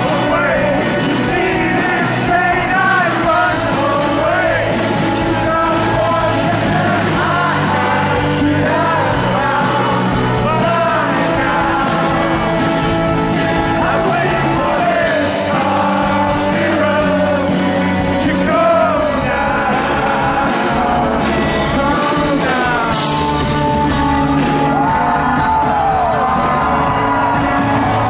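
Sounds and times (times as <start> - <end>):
person singing lead vocal: 0.0 - 28.0
rock band playing: 0.0 - 28.0.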